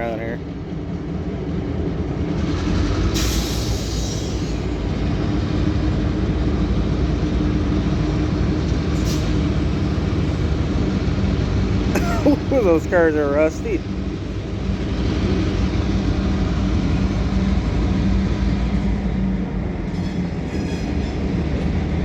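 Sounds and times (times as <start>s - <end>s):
diesel locomotives running: 0.0s - 22.0s
rumble of rolling freight cars: 0.0s - 22.0s.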